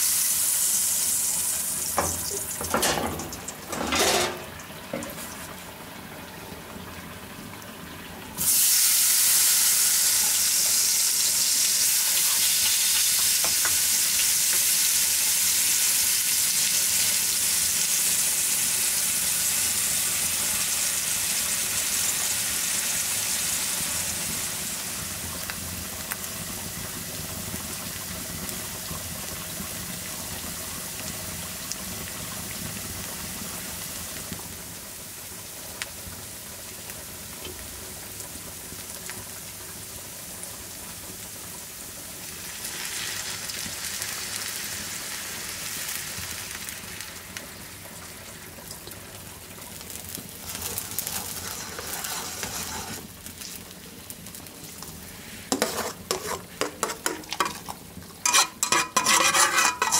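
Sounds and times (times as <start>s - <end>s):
onion sizzling in hot fat: 0.0s - 6.9s, 8.3s - 59.9s.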